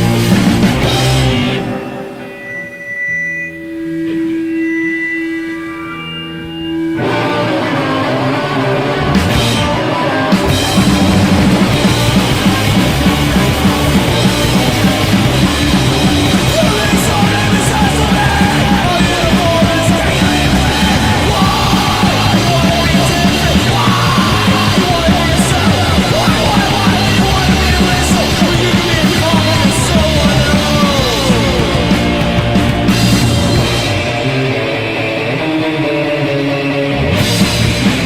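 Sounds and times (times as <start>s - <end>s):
electric guitar: 0.0s - 38.0s
punk rock band playing: 0.0s - 38.0s.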